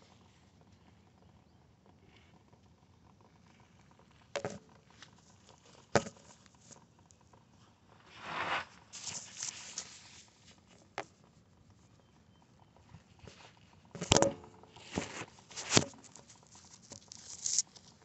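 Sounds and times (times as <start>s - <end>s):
rustling and clattering: 2.1s - 18.0s.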